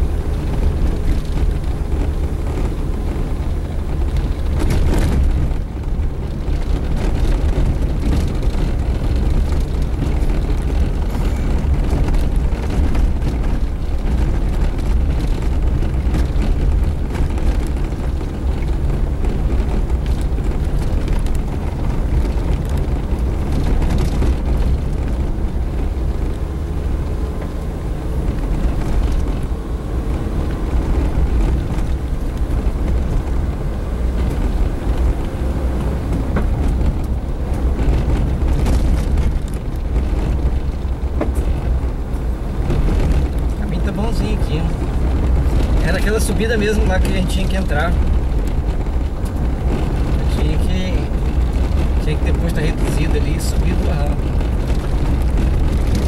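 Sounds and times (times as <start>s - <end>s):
vehicle rumbling on dirt road: 0.0s - 56.0s.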